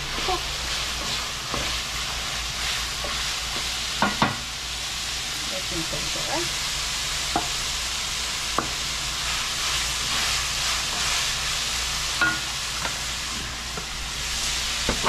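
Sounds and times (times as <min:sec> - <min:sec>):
food sizzling in a metal pot: 0:00.0 - 0:15.0.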